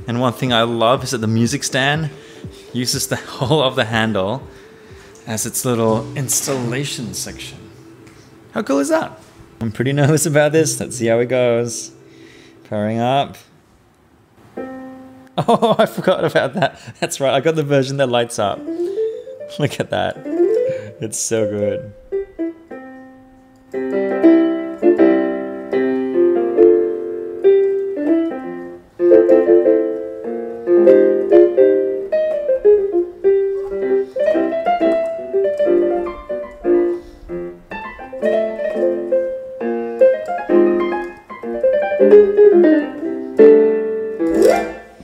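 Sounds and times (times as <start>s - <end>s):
electronic keyboard playing: 0.0s - 12.4s, 14.6s - 15.4s, 18.4s - 45.0s.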